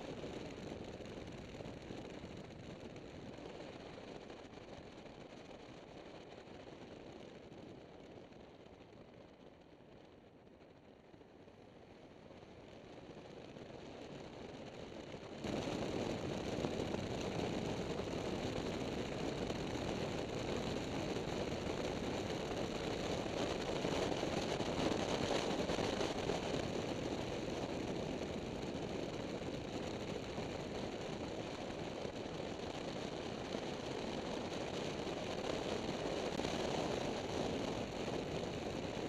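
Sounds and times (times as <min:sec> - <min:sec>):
motorcycle riding at road speed: 0:00.0 - 0:39.0.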